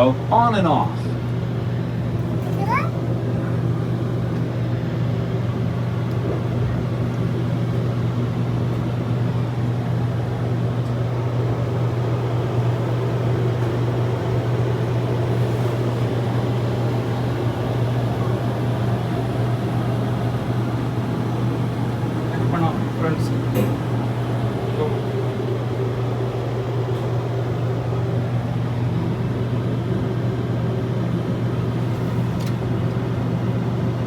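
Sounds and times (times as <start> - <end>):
low mechanical hum with whir: 0.0 - 34.0.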